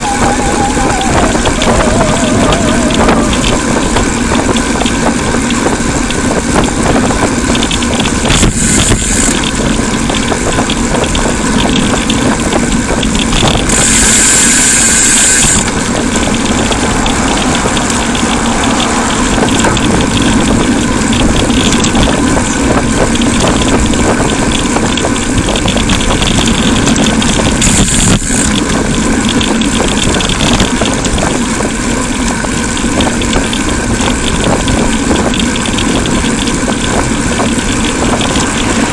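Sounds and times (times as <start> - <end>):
road and traffic noise: 0.0 - 38.9.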